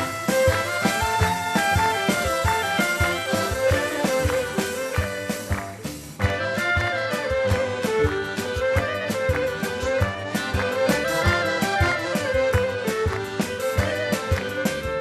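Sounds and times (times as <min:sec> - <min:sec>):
folk band playing: 0:00.0 - 0:15.0.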